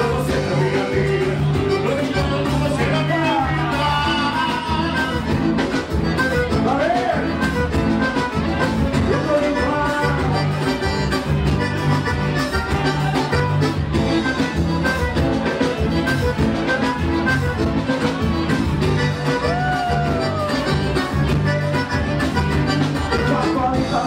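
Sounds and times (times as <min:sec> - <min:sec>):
live band with accordion: 0:00.0 - 0:24.0.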